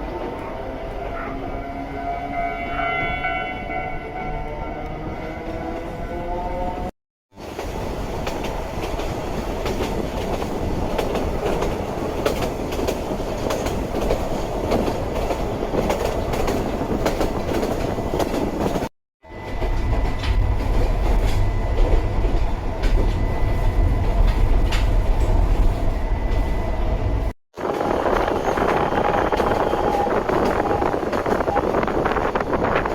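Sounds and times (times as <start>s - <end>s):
electric train running on rails: 0.0s - 32.9s.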